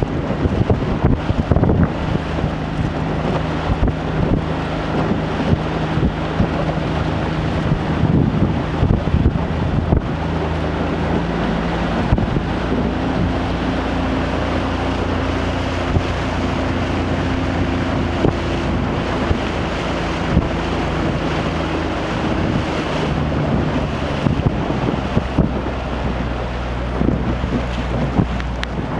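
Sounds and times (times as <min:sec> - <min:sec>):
boat engine humming: 0:00.0 - 0:28.9
water rushing past hull: 0:00.0 - 0:28.9
wind on microphone: 0:00.0 - 0:28.9.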